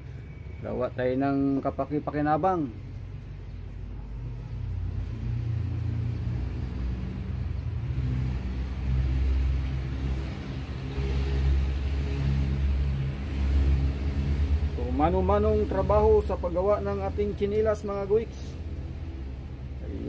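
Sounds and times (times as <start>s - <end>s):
engine rumble: 0.0s - 20.0s.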